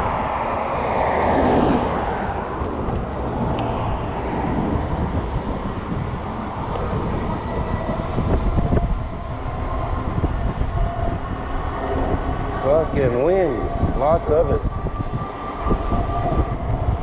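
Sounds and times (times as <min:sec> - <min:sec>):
gusty wind buffeting microphone: 0:00.0 - 0:17.0.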